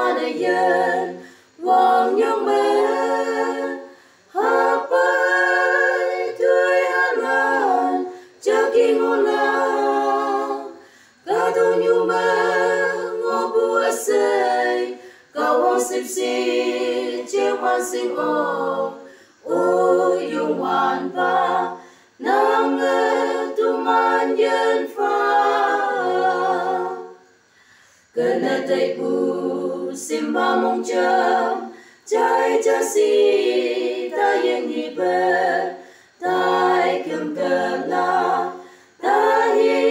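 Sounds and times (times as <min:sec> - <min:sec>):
group of voices singing in harmony: 0:00.0 - 0:39.9.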